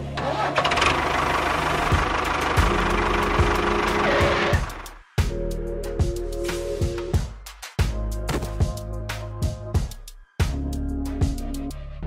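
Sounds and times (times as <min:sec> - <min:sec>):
background music with drum beat: 0:02.0 - 0:11.8.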